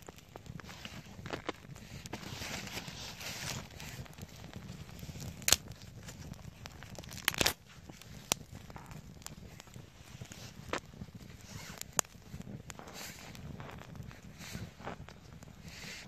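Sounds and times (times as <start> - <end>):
crinkly rustling handling noise: 0.0 - 16.0.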